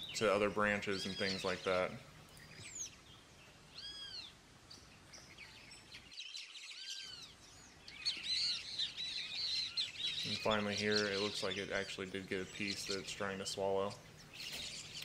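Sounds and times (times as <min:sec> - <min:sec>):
birds calling: 0:00.0 - 0:15.0
birds chirping: 0:00.0 - 0:15.0.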